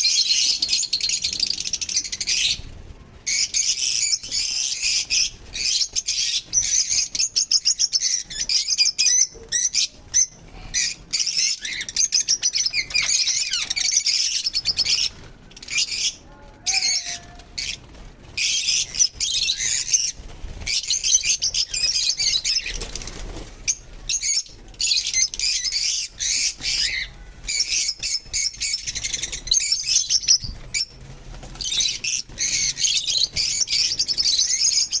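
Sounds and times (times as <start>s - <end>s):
birds chattering: 0.0s - 35.0s.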